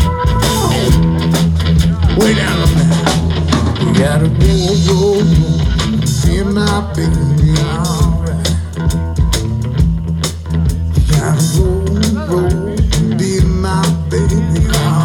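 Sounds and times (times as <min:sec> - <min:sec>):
drum beats: 0:00.0 - 0:15.0
live rock band playing: 0:00.0 - 0:15.0.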